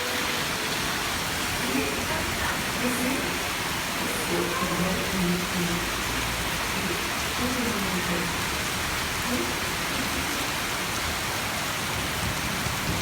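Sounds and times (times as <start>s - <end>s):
heavy rain on street: 0.0s - 13.0s.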